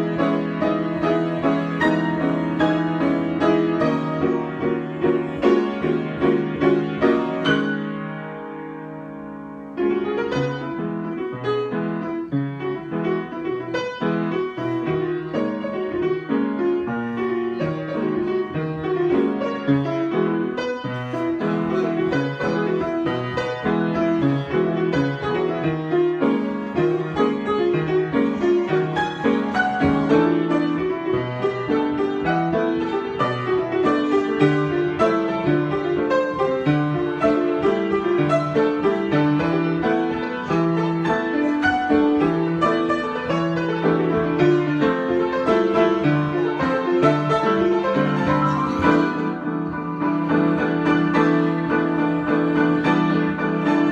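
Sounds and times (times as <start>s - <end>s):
solo piano improvisation: 0.0s - 53.9s.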